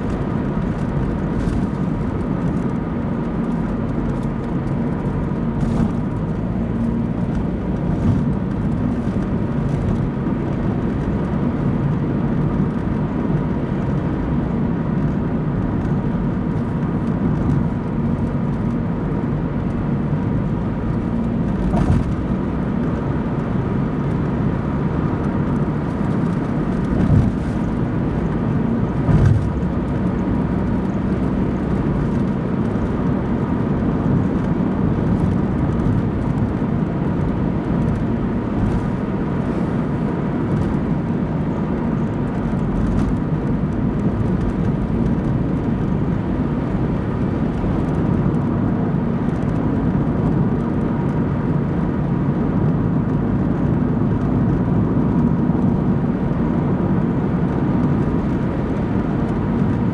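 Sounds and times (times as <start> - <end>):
car engine and tyre drone: 0.0 - 59.9.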